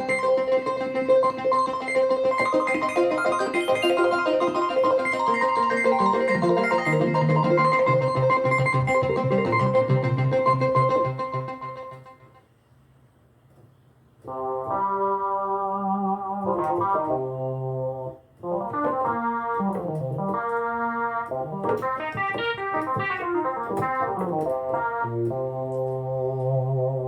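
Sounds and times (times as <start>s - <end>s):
keyboard sustained chords: 0.0s - 12.4s, 14.3s - 27.0s
keyboard melody notes: 0.0s - 12.5s, 14.2s - 27.0s.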